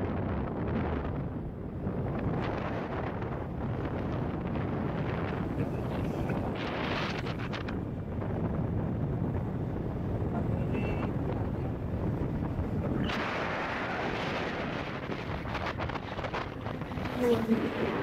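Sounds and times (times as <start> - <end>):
low motorcycle rumble: 0.0 - 18.0
wind rushing over microphone: 0.0 - 18.0.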